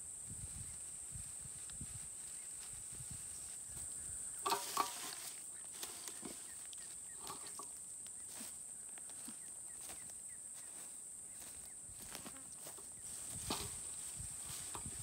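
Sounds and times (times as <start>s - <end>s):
leaves rustling and clicking: 0.8s - 15.0s.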